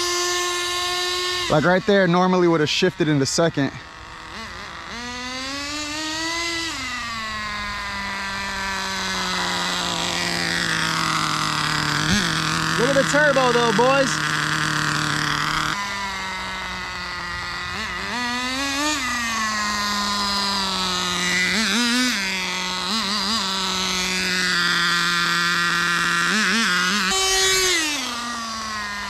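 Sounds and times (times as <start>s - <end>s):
small glow engine screaming: 0.0s - 29.0s.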